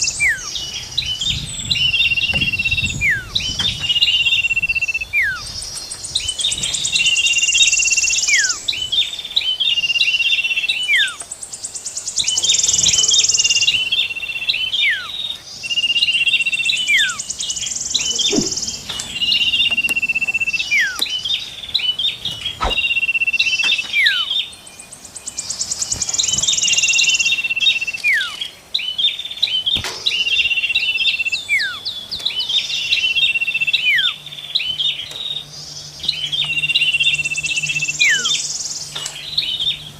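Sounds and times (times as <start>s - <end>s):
songbird calls and trills: 0.0s - 39.9s.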